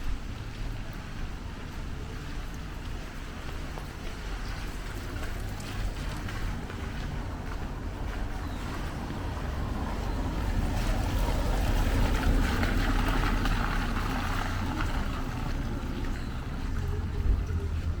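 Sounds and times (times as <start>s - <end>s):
rainy street ambience: 0.0s - 18.0s
wind rumble on microphone: 0.0s - 18.0s.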